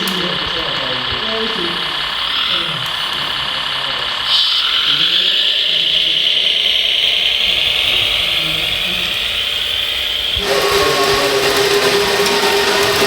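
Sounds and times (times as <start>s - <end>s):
high-pitched electric motor whine: 0.0s - 13.0s.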